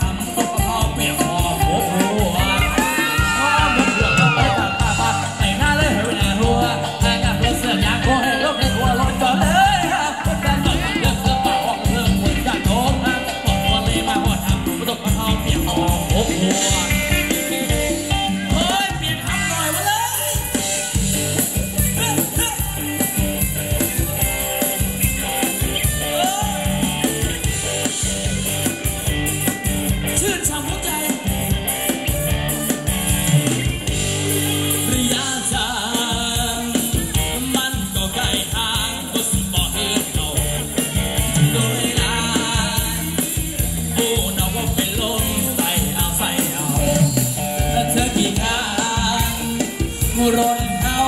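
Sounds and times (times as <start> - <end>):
bass: 0.0 - 51.0
live band dance music: 0.0 - 51.0
steady drum beat: 0.0 - 51.0.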